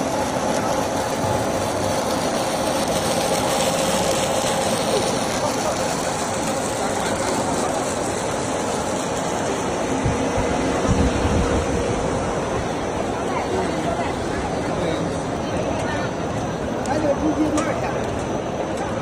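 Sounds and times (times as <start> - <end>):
production line machinery running: 0.0 - 19.0.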